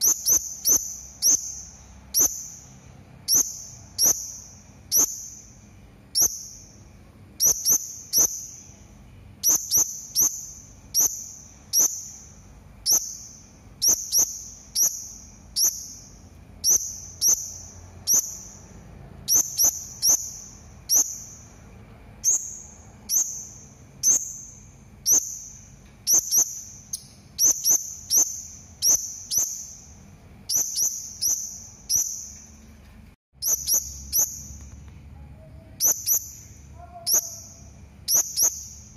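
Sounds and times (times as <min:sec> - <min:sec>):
parrot high-pitched calls: 0:00.0 - 0:05.5, 0:07.4 - 0:08.8, 0:09.4 - 0:18.6, 0:19.2 - 0:21.6, 0:22.2 - 0:29.9, 0:30.5 - 0:32.4, 0:33.4 - 0:34.6, 0:35.3 - 0:38.9.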